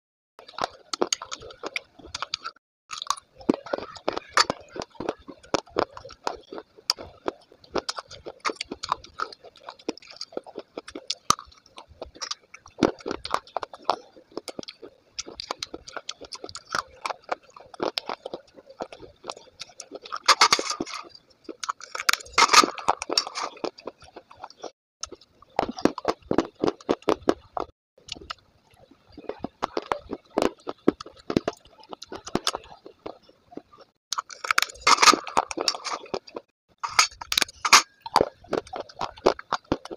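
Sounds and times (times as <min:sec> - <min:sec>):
crunching of chewed clay: 0:00.4 - 0:39.9.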